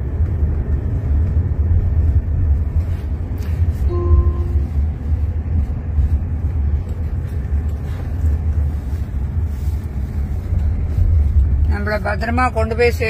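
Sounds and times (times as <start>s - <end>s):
road and tyre rumble in car cabin: 0.0s - 13.0s.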